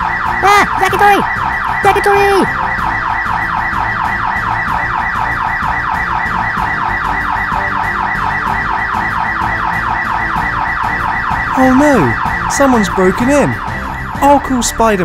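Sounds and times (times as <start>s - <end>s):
burglar alarm sweeping: 0.0s - 15.0s.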